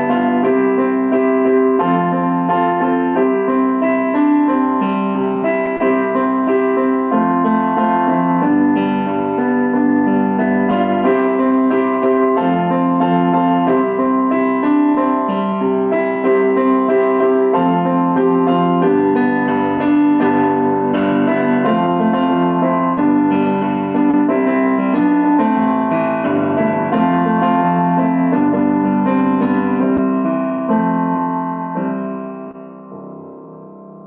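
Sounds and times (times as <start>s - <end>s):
piano playing chords and melody: 0.0s - 34.0s.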